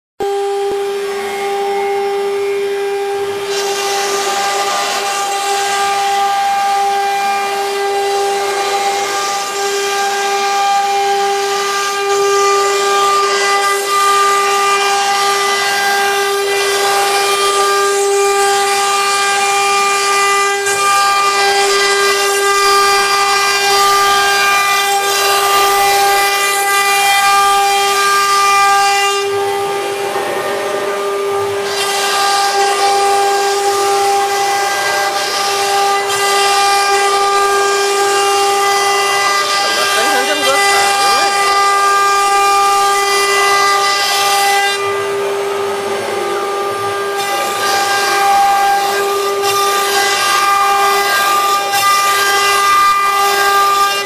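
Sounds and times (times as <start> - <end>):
router spindles whining: 0.2 - 54.0
router bits cutting wood hiss: 0.6 - 54.0.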